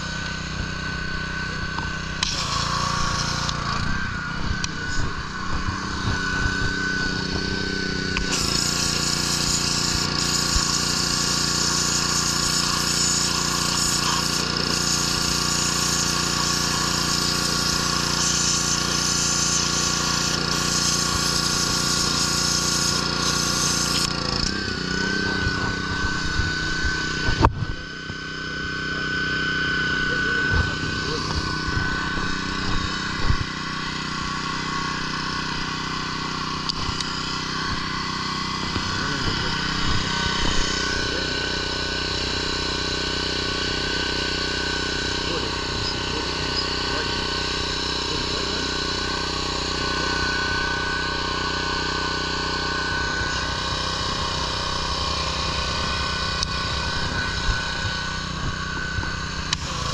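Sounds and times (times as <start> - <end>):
pressure washer engine running: 0.0 - 59.9
water hissing from nozzle: 1.8 - 3.8, 4.7 - 27.2, 30.2 - 59.9.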